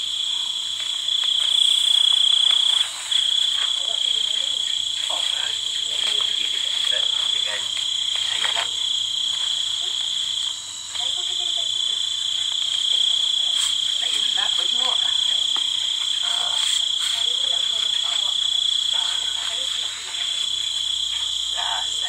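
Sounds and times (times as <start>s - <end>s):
crickets chirping: 0.0s - 22.0s
faint voices murmuring: 2.0s - 22.0s.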